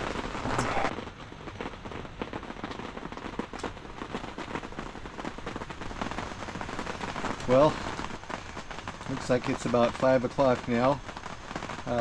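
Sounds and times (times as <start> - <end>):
heavy rain patter: 0.0 - 12.0
wood fire crackling and popping: 0.0 - 12.0.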